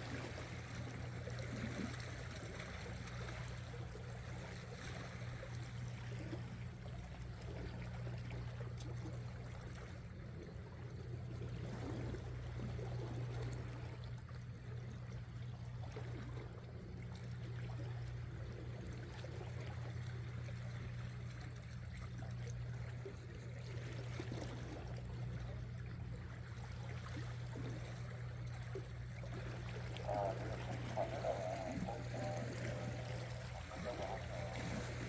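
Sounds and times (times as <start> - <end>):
sea water sloshing around rocks: 0.0 - 35.0
steady low hum: 0.0 - 35.0.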